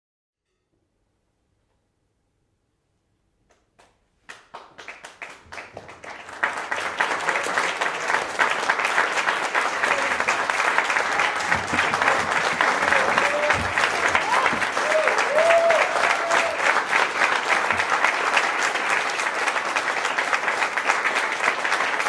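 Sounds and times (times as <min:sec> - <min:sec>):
crowd applause: 0:04.3 - 0:22.0.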